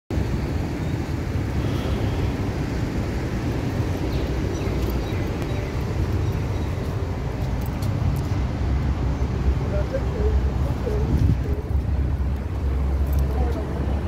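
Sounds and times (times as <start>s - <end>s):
wind buffeting microphone: 0.2s - 14.0s.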